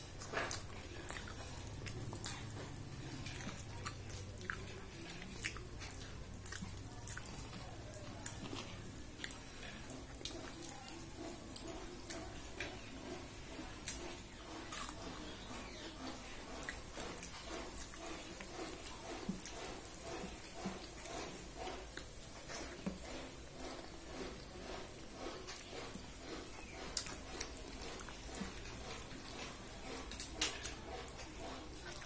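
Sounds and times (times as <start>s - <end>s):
food mixed by hand on plate: 0.0s - 32.0s
wet mouth chewing sounds: 0.0s - 32.0s.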